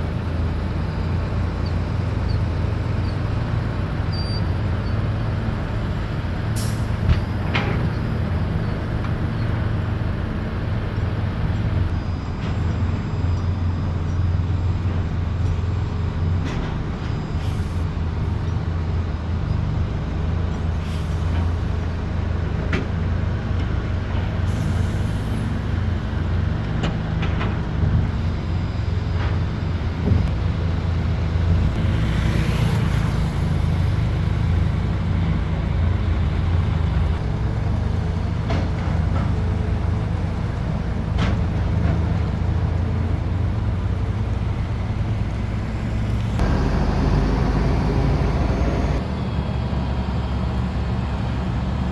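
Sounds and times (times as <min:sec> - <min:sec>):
heavy diesel engines running: 0:00.0 - 0:51.9.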